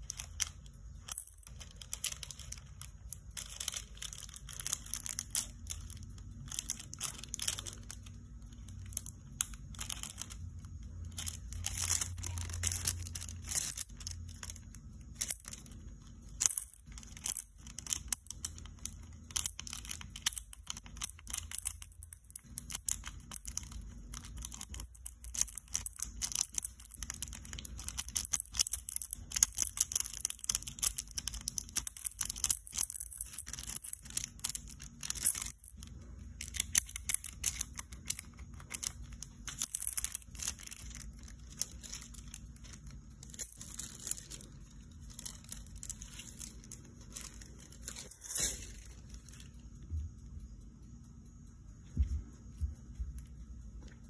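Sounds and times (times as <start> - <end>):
foil crinkling and crackling: 0.0 - 49.9.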